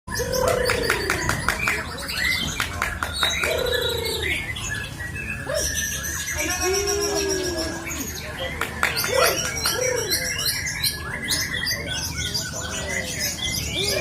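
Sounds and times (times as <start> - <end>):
bird singing long song: 0.1 - 14.0.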